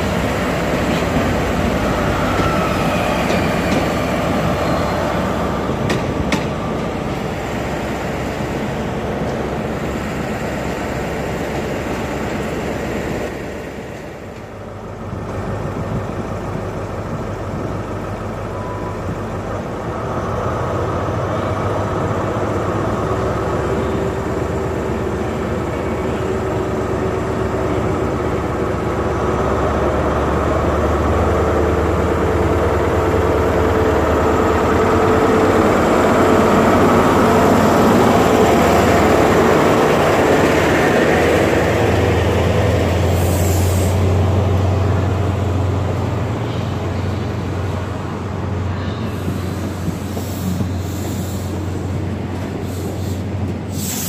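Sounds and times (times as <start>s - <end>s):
diesel train engine running: 0.0s - 54.0s.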